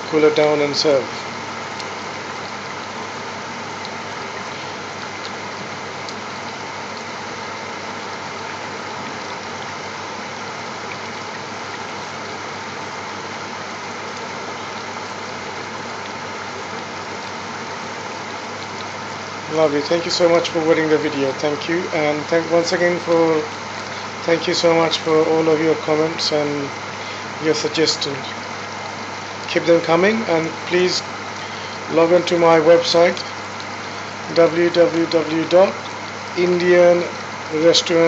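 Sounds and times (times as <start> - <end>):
kitchen equipment humming: 0.0 - 38.0.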